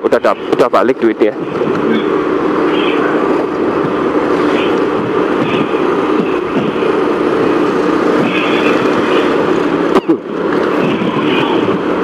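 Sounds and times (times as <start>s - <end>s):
wind and road noise: 0.0s - 12.0s
motorcycle engine cruising: 1.4s - 12.0s.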